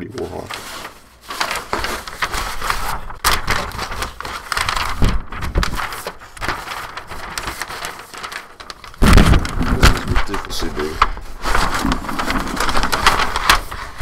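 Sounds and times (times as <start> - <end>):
paper sheets rustling and crinkling: 0.0 - 14.0.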